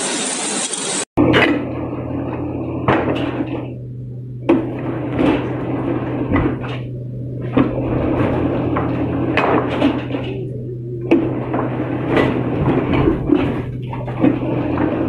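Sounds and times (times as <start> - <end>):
steady machine hum: 0.0 - 15.0
heavy metal clanks: 1.2 - 15.0.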